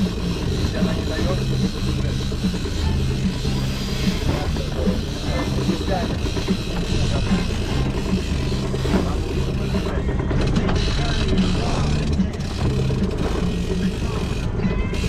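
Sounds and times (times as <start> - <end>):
boat engine running: 0.0 - 15.0
music with repeating bass line: 0.0 - 15.0.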